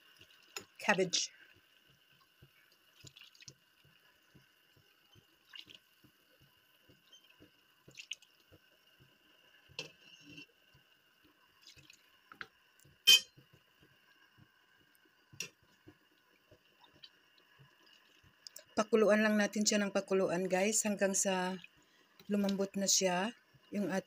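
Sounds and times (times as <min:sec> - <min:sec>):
soup bubbling and popping: 0:00.0 - 0:18.8, 0:20.4 - 0:23.8.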